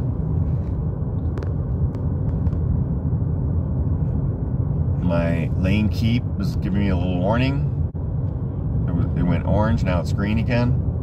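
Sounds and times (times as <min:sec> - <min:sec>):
tyre and road rumble in cabin: 0:00.0 - 0:11.0.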